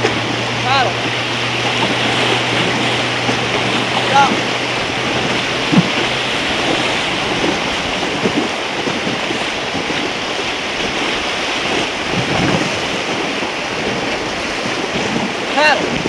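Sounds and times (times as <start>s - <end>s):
river water rushing: 0.0s - 16.0s
small water splashes: 0.0s - 16.0s
wind buffeting microphone: 0.0s - 16.0s.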